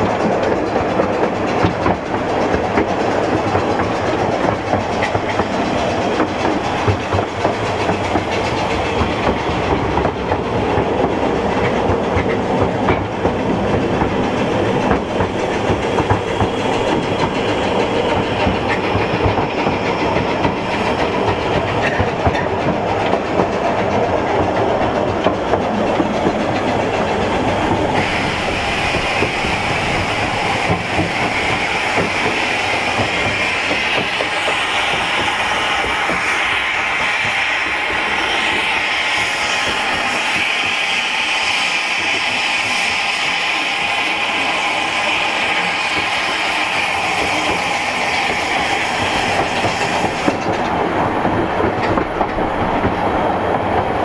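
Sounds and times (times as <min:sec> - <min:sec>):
steam hiss: 0:00.0 - 0:54.0
train carriages rumbling and clattering: 0:00.0 - 0:54.0.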